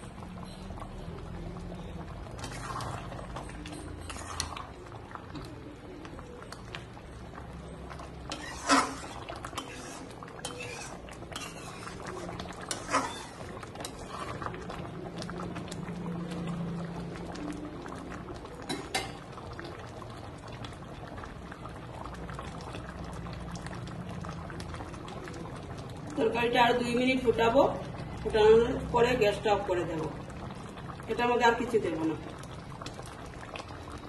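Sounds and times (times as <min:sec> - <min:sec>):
curry bubbling: 0:00.0 - 0:34.0.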